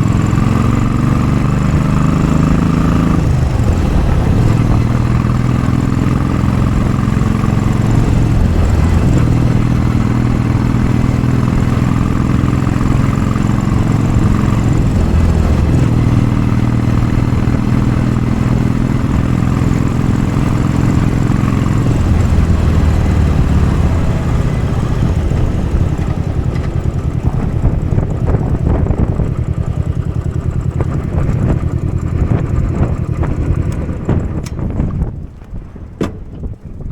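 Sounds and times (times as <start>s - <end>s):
motorcycle engine pulling under load: 0.0s - 36.9s.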